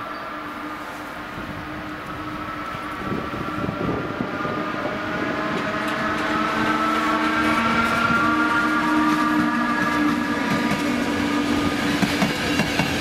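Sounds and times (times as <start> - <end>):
electric locomotive whine: 0.0 - 13.0
wheel-on-rail rumble and clatter: 1.4 - 13.0.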